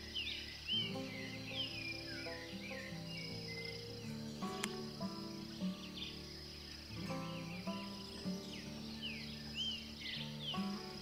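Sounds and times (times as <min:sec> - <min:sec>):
high bird chirps: 0:00.0 - 0:11.0
high insect buzz: 0:00.0 - 0:11.0
soft background music: 0:00.0 - 0:11.0.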